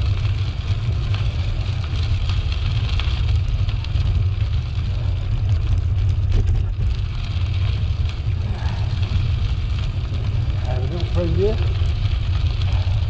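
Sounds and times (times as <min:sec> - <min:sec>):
air rushing over microphone: 0:00.0 - 0:13.0
bicycle tyres hissing: 0:00.0 - 0:13.0.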